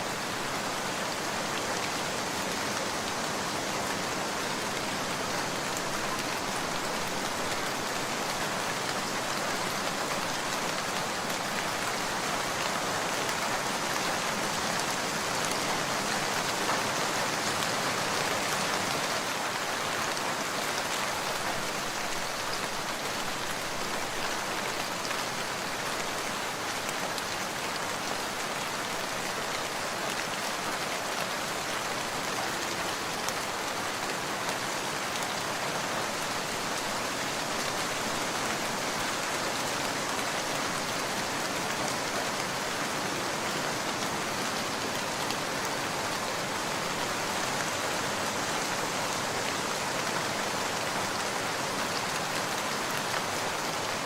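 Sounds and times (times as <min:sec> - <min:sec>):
rain pattering on surfaces: 0:00.1 - 0:54.0.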